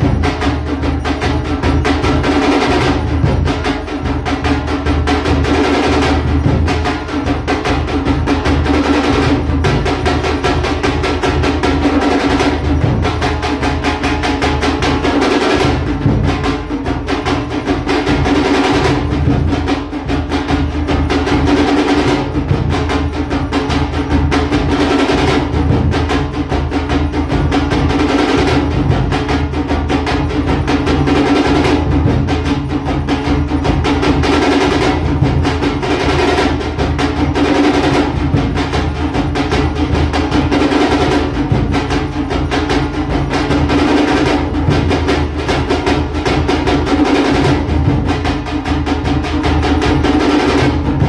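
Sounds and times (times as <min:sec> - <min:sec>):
fast rhythmic drumming: 0:00.0 - 0:51.0.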